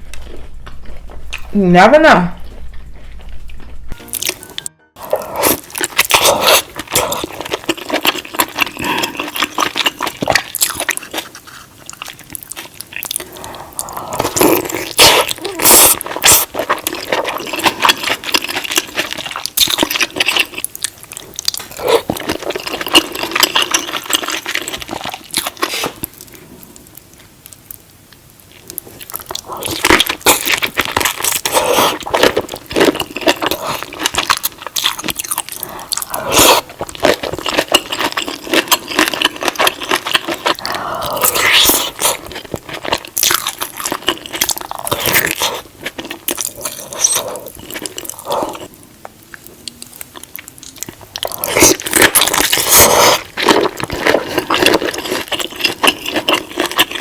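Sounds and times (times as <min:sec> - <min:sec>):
crunching and chewing seafood: 0:00.0 - 0:01.6, 0:02.4 - 0:57.0.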